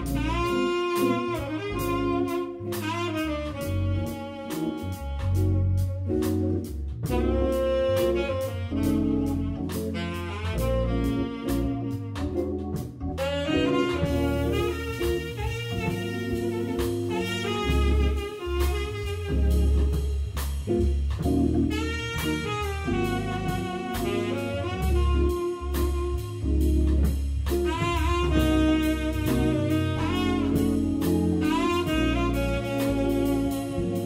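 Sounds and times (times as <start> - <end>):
drum kit: 0.0 - 34.0
guitar: 0.0 - 34.0
organ bass and chords: 0.0 - 34.0
tenor saxophone melody: 0.0 - 34.0.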